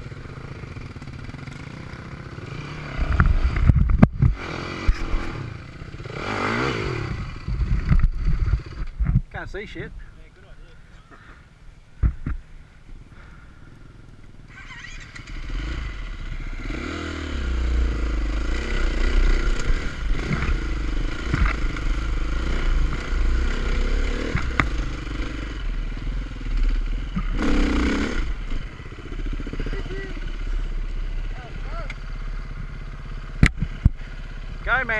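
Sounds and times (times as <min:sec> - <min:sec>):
dirt bike engine revving: 0:00.0 - 0:09.0, 0:13.2 - 0:34.9.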